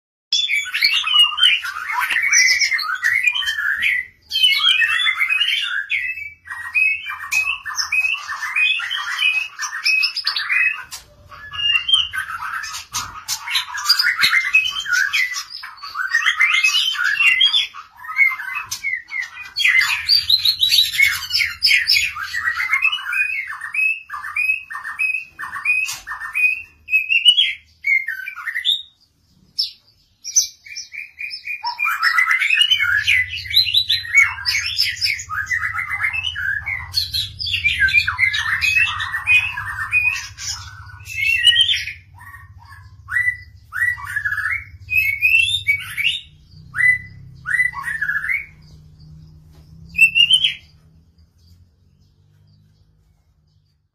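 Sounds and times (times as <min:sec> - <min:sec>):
bird singing: 0:00.3 - 0:53.9.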